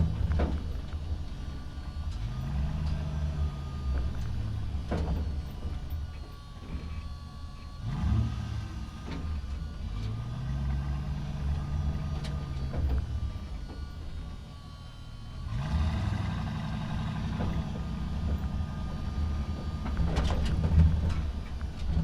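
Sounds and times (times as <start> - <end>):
truck engine rumble: 0.0 - 22.0.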